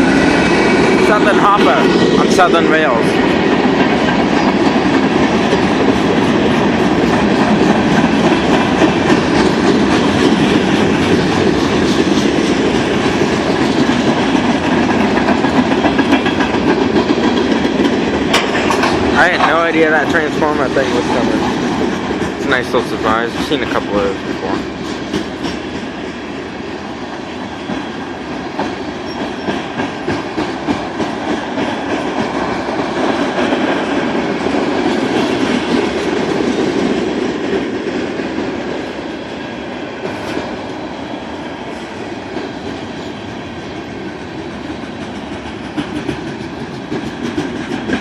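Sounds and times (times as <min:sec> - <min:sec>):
train wheel clicks: 0:00.0 - 0:26.2, 0:27.3 - 0:38.5, 0:44.2 - 0:48.0
freight train cars rolling past: 0:00.0 - 0:48.0.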